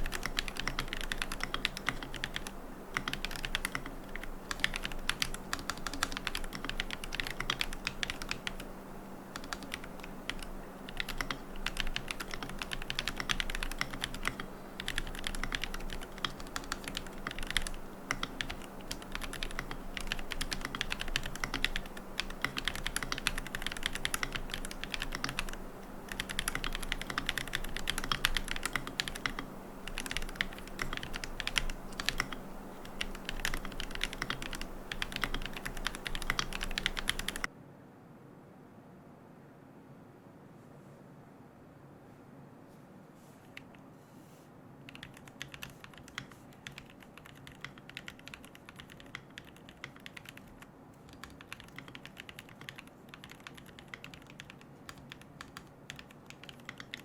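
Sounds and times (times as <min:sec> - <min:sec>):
mechanical keyboard typing: 0:00.0 - 0:08.7, 0:09.3 - 0:37.5, 0:44.9 - 0:57.0.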